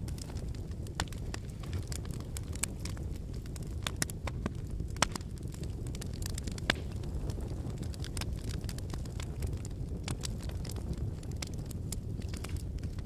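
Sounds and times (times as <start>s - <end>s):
firewood crackling and popping: 0.0s - 13.0s
low rumble of flames: 0.0s - 13.0s.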